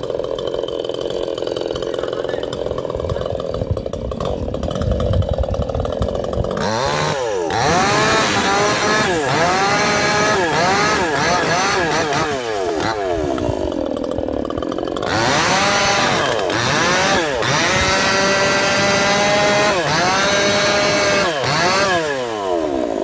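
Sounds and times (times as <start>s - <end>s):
chainsaw revving: 0.0s - 23.0s.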